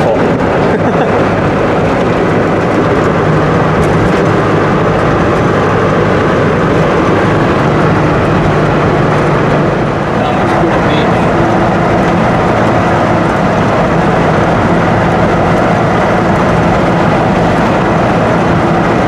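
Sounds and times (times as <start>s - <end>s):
low hum: 0.0s - 19.0s
truck engine driving: 0.0s - 19.0s.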